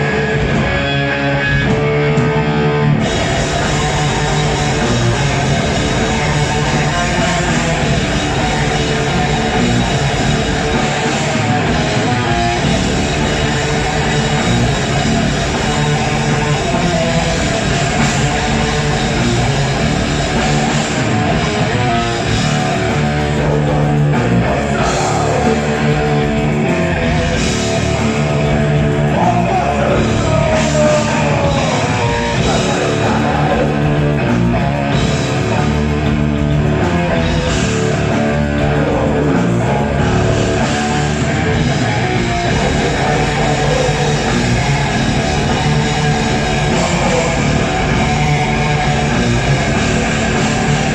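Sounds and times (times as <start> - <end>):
bass guitar: 0.0 - 50.9
distorted electric guitars: 0.0 - 50.9
drums: 0.0 - 50.9.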